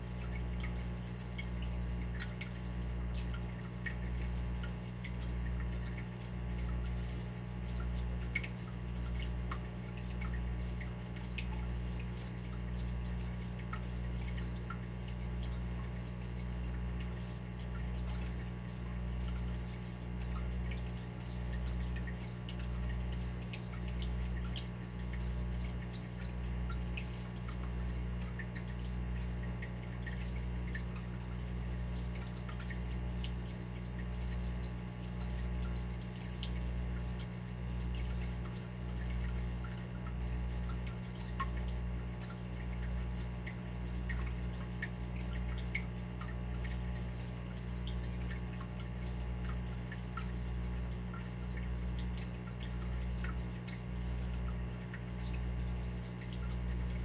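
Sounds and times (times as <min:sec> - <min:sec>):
water dripping: 0:00.0 - 0:57.0.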